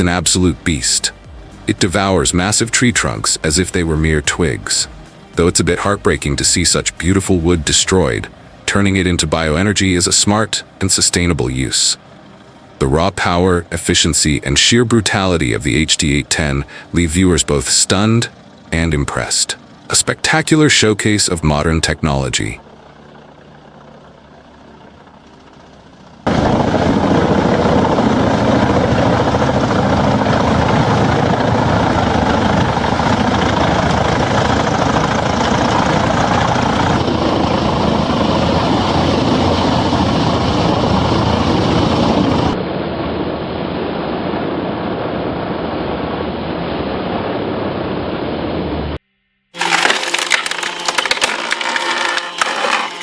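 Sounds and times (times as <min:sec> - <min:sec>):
wood chipper running: 0:00.0 - 0:13.7, 0:15.1 - 0:42.6, 0:49.6 - 0:53.0.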